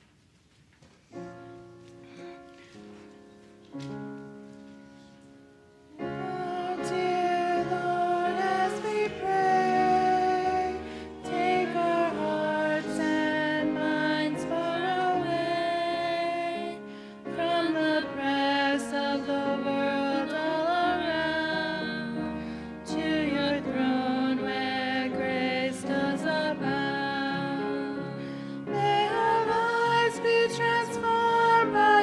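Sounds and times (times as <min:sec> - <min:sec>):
congregation singing a hymn: 0:05.9 - 0:32.0.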